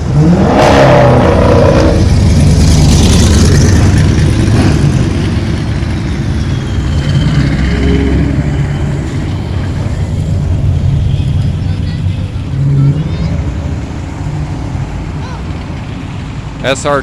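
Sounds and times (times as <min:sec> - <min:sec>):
car exhaust rumble: 0:00.0 - 0:17.0.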